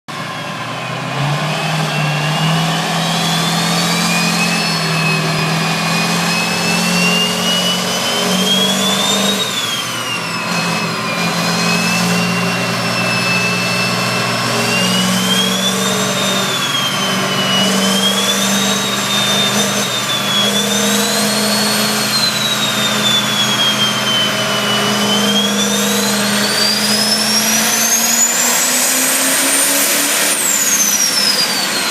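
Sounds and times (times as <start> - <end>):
high whine: 0.1 - 31.9
truck engine running: 0.1 - 31.9.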